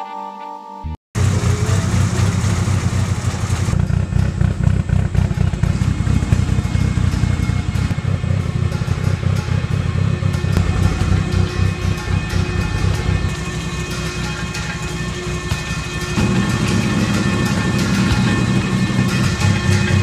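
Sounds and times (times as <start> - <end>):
car engine idling: 1.2 - 20.0.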